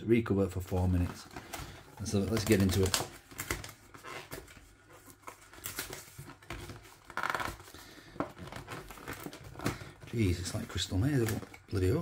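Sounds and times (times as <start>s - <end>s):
cardboard scraping and crinkling: 0.9s - 12.0s.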